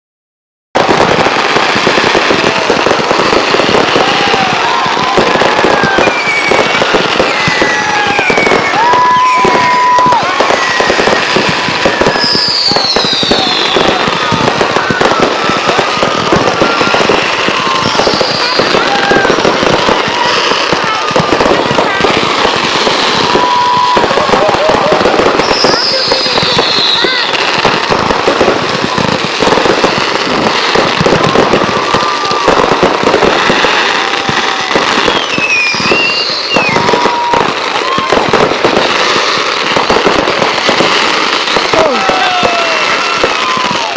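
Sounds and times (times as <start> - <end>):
fireworks bangs and crackles: 0.7 - 43.9
whistling fireworks: 0.8 - 43.9.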